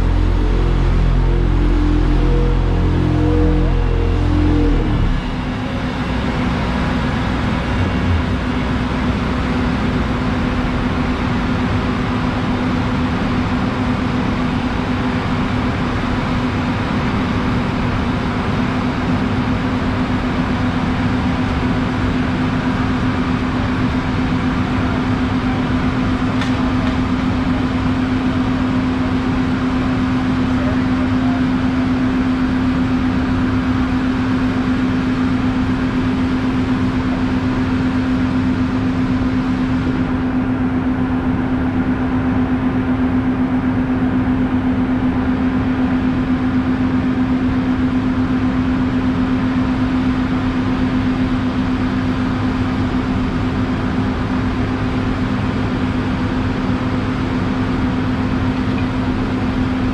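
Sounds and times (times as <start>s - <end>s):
road roller diesel engine: 0.0s - 59.9s.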